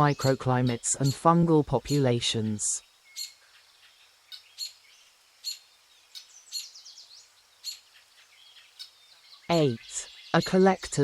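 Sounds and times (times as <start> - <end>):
birds chirping: 0.0 - 11.0
faint background hiss: 0.0 - 11.0.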